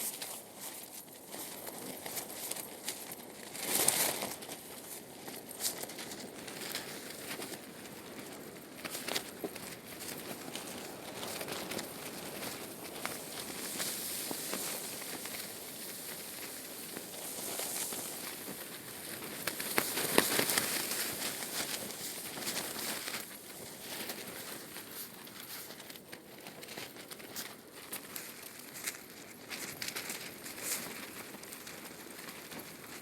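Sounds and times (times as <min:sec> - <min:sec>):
rain pattering: 0:01.2 - 0:33.0.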